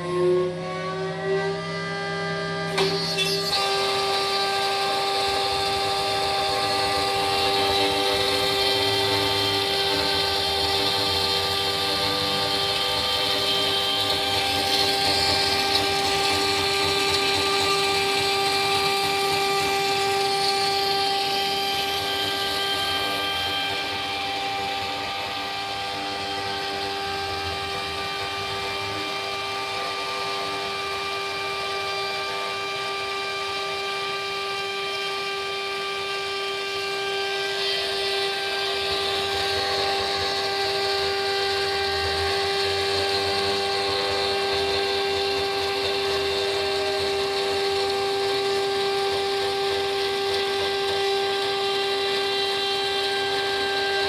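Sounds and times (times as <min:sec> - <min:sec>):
end mill cutting panel: 0:00.0 - 0:54.0
router spindle whining: 0:00.0 - 0:54.0.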